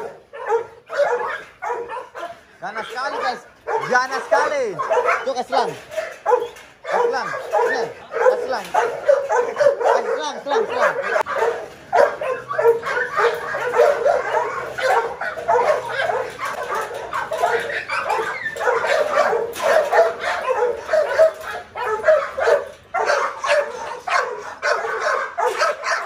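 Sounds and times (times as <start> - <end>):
dogs yipping and barking: 0.0 - 26.0.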